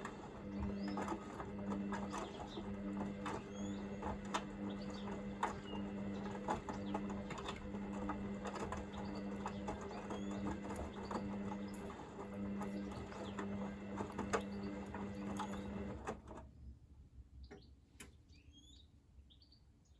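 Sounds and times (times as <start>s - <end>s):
washing machine drum motor humming: 0.0s - 16.3s.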